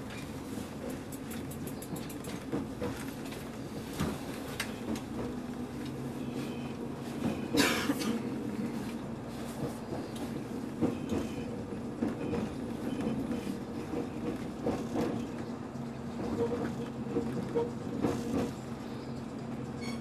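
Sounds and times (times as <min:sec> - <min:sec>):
wheels clicking over rail joints: 0:00.0 - 0:06.0, 0:08.8 - 0:20.0
train rumble and hum: 0:00.0 - 0:20.0.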